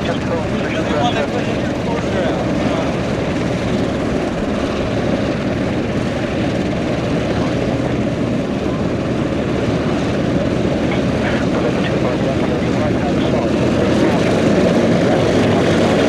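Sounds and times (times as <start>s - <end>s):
propeller aircraft engines running: 0.0s - 16.0s.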